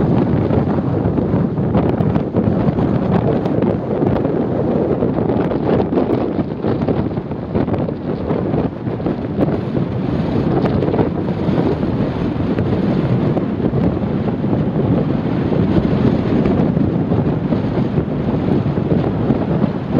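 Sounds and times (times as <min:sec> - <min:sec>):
surf breaking on beach: 0:00.0 - 0:19.9
wind buffeting microphone: 0:00.0 - 0:19.9.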